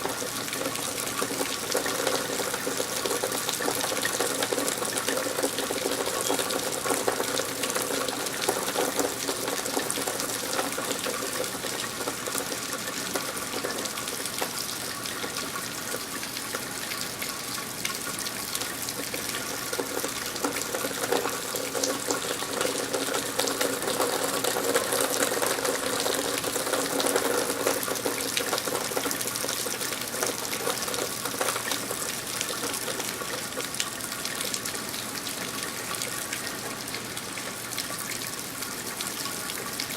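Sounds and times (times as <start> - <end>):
rain falling: 0.0 - 39.9
running water: 0.0 - 39.9.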